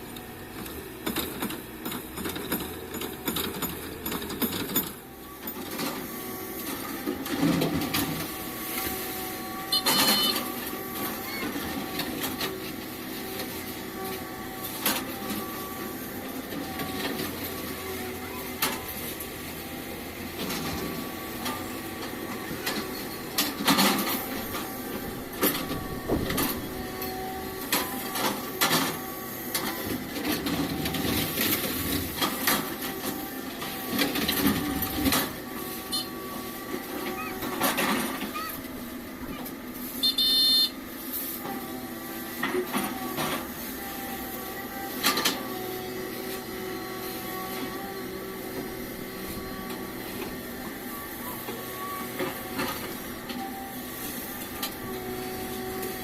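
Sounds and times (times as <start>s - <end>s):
excavator engine humming: 0.0s - 56.0s.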